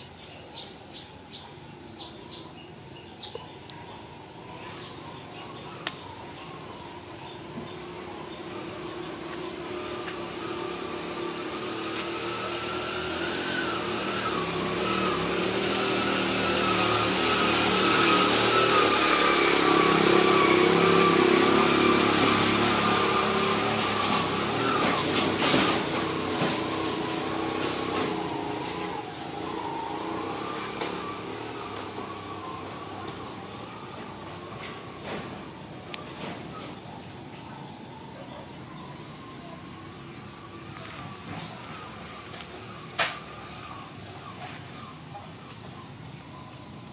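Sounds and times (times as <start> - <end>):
small engine humming: 0.0 - 46.9.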